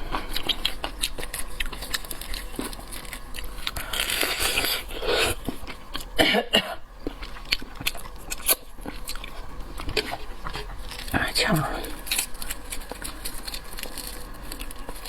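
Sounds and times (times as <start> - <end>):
wet chewing and biting: 0.0 - 6.2, 6.8 - 15.0.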